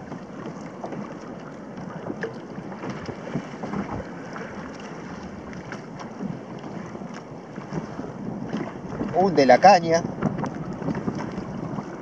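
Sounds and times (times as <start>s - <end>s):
water lapping against kayak: 0.0s - 12.0s
wind buffeting microphone: 0.0s - 12.0s
small splashes and knocks: 0.1s - 9.2s, 10.1s - 12.0s.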